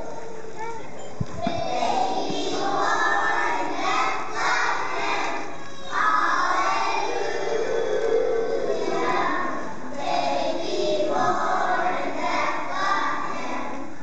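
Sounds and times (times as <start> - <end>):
young children singing together: 1.3 - 14.0.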